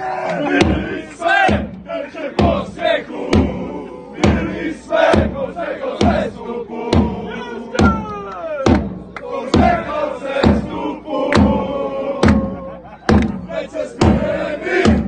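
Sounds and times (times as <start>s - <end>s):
crowd chanting in unison: 0.0s - 15.0s
sharp beat: 0.5s - 12.5s, 13.1s - 15.0s.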